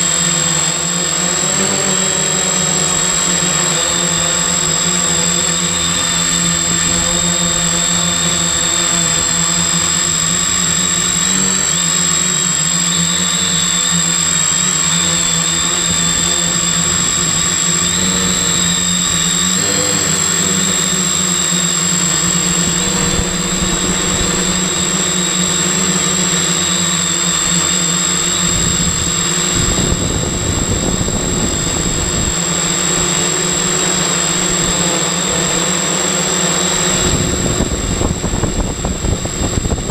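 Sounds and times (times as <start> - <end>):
drone motors buzzing: 0.0 - 39.9.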